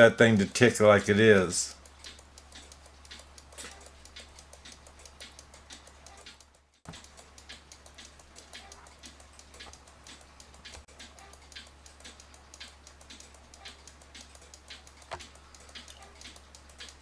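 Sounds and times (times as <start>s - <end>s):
clock ticking: 0.0s - 17.0s.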